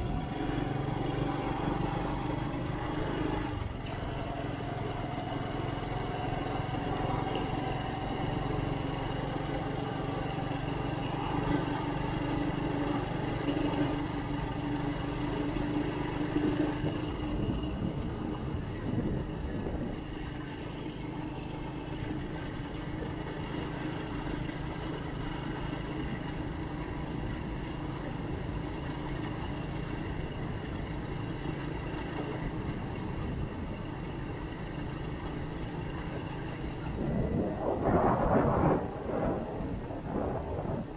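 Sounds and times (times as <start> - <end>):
road and wind noise: 0.0 - 40.9
vehicle engine running: 0.0 - 40.9.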